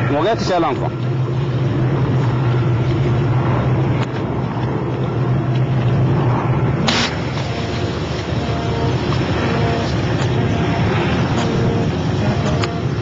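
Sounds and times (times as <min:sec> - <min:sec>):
boat engine humming: 0:00.0 - 0:13.0
rushing noise: 0:00.0 - 0:13.0.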